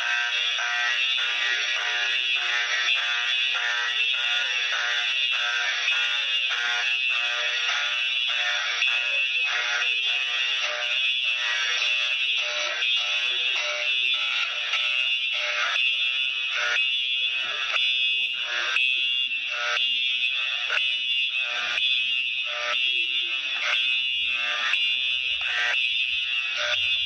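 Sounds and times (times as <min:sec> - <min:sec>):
fire alarm pulsing high tone: 0:00.0 - 0:27.0.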